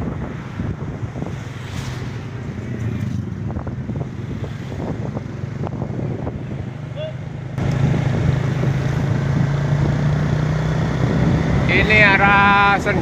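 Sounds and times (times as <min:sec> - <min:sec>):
wind noise on microphone: 0:00.0 - 0:13.0
vehicle engine running: 0:02.5 - 0:13.0.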